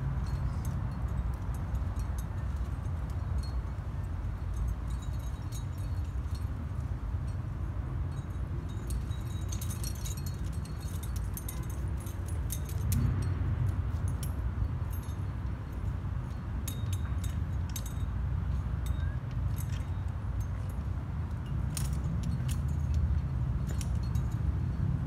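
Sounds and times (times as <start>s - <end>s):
metal climbing gear clinking: 0.0s - 25.0s.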